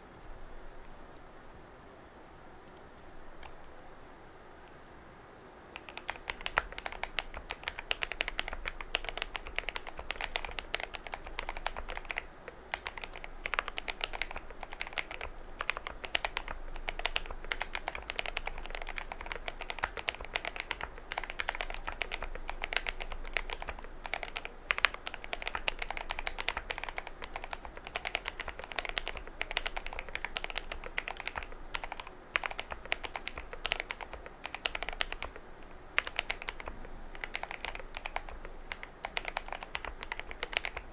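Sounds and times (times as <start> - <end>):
fast mechanical keyboard typing: 2.6 - 3.7, 5.8 - 40.9.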